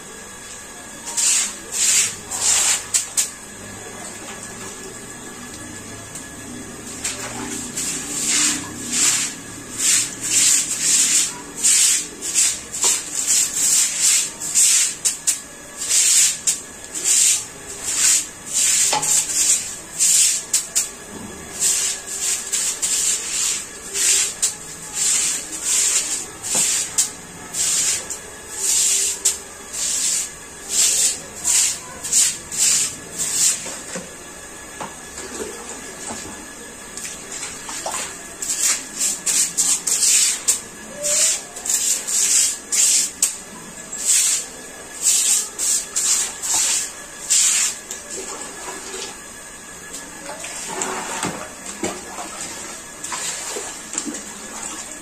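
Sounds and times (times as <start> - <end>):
broom scrubbing wet tiled floor: 0.0 - 55.0.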